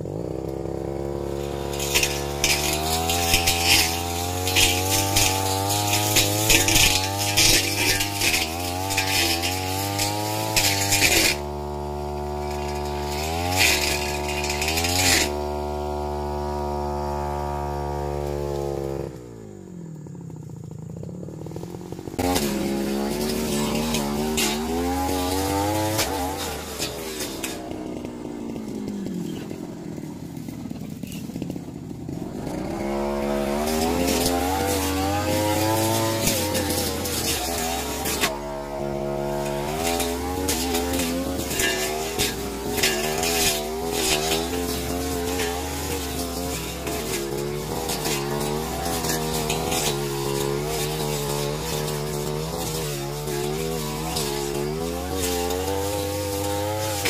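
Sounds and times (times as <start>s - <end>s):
blade cutting through weeds: 0.0s - 20.1s, 20.9s - 57.0s
brush cutter engine revving: 0.0s - 57.0s.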